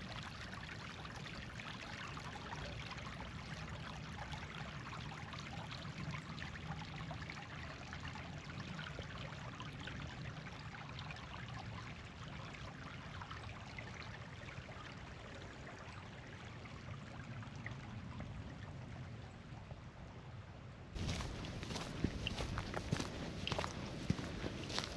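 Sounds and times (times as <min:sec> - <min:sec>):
small stream trickling: 0:00.0 - 0:24.9.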